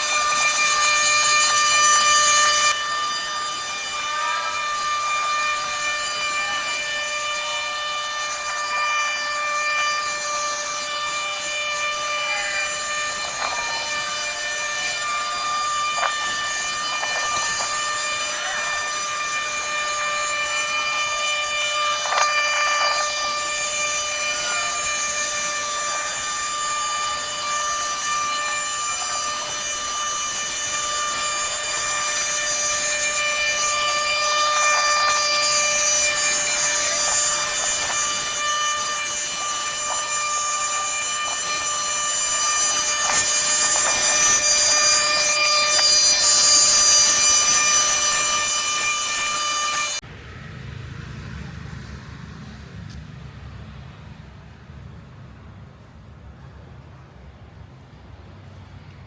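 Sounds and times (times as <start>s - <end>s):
machine high whine: 0.0s - 50.0s.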